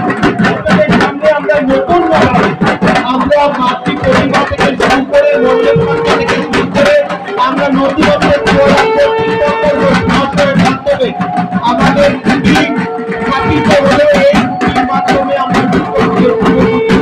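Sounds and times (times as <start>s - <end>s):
music with fast beat: 0.0s - 17.0s.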